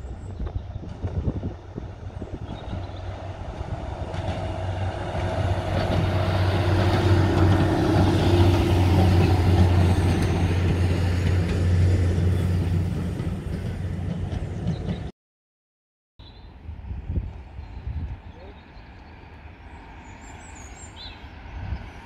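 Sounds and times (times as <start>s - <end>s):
diesel train passing: 0.0s - 15.1s, 16.4s - 22.0s.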